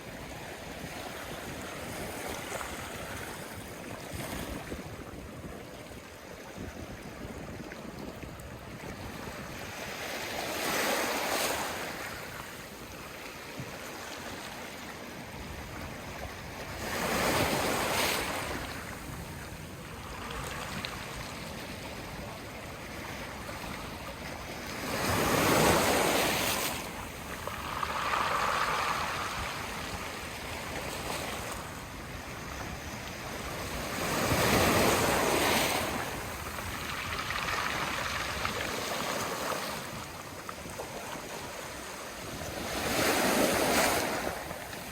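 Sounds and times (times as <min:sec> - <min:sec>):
sea waves washing on shore: 0:00.0 - 0:44.9.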